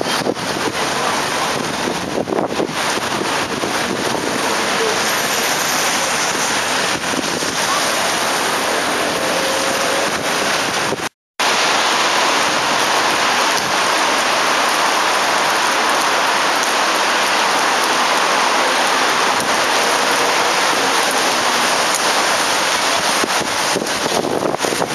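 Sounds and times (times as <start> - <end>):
steady rain hiss: 0.2 - 24.9.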